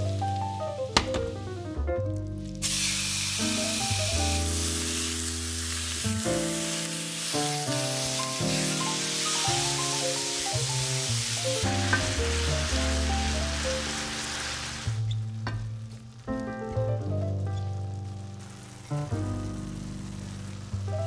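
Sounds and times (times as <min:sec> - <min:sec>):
background music: 0:00.0 - 0:21.0
meat sizzling in a frying pan: 0:02.4 - 0:21.0.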